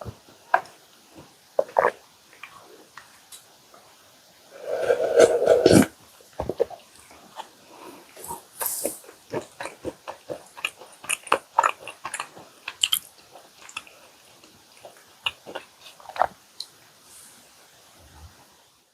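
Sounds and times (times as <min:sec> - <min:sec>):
chewing cookies: 0:00.0 - 0:03.6, 0:04.8 - 0:16.8.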